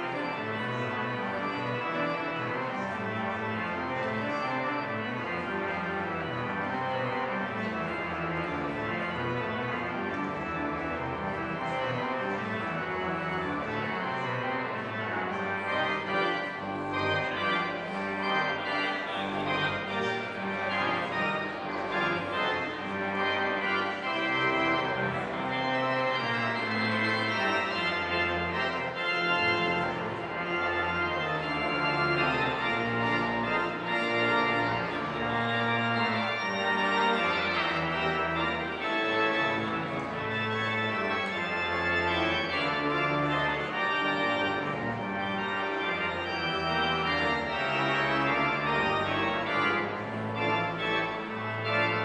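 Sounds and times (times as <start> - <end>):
church organ chords: 0.0 - 52.0.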